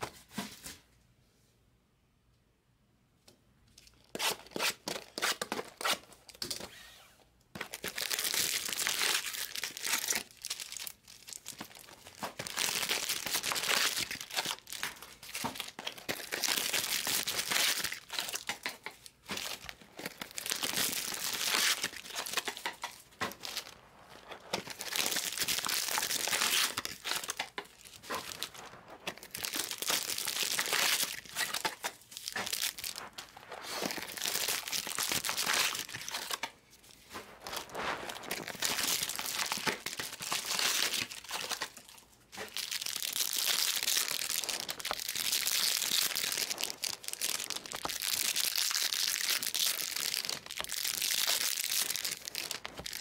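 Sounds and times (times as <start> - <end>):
crinkling foil packs: 7.6 - 53.0
plastic wrap crinkling: 7.6 - 53.0.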